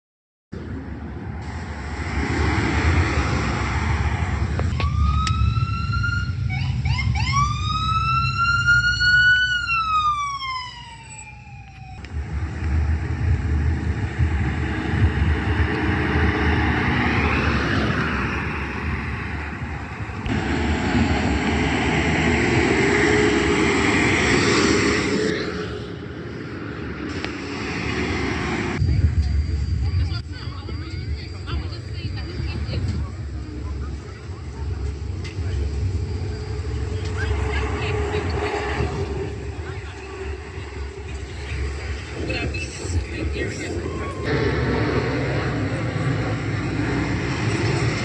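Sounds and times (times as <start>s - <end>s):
street traffic: 0.5s - 48.0s
heavy engine noise: 0.6s - 48.0s
emergency sirens wailing: 0.7s - 48.0s.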